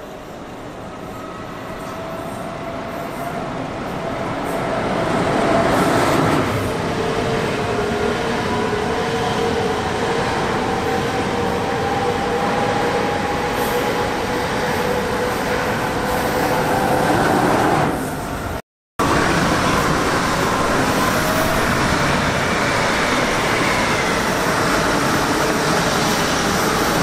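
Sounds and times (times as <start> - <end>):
train wheels rushing on rails: 0.0 - 27.0
train whine: 0.0 - 27.0.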